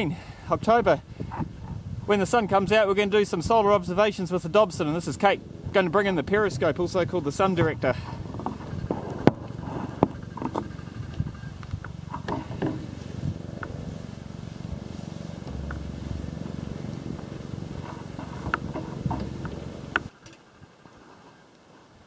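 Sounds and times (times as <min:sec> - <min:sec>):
low steady rumble: 0:00.0 - 0:20.6.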